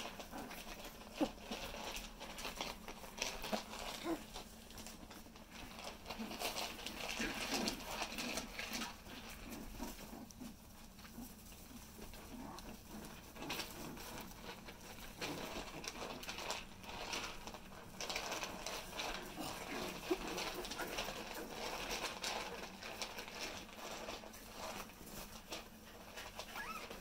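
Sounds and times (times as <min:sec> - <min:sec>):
puppy grunts: 0:00.0 - 0:27.0
puppy paws pattering on litter: 0:00.0 - 0:27.0.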